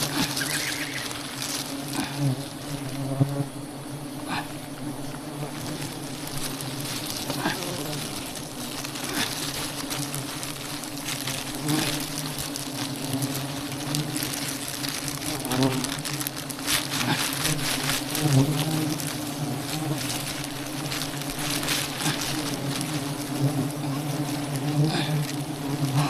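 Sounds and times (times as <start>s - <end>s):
scattered crackles: 0.0s - 3.4s, 4.2s - 26.0s
bees buzzing: 0.0s - 26.0s.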